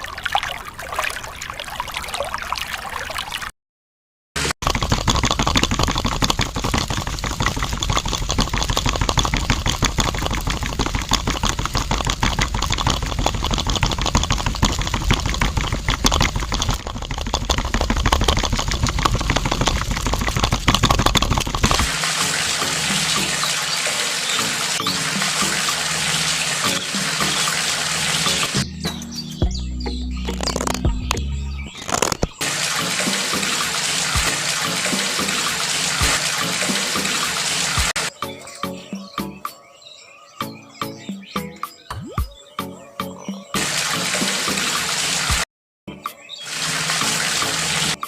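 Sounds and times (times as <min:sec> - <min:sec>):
water pouring and splashing: 0:00.0 - 0:03.5, 0:04.4 - 0:28.7, 0:30.3 - 0:38.2, 0:43.5 - 0:45.5, 0:46.4 - 0:48.0.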